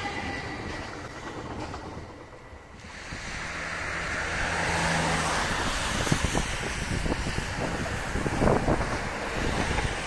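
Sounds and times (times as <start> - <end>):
electric train approaching: 0.0 - 10.0
wind rumbling on microphone: 0.0 - 10.0.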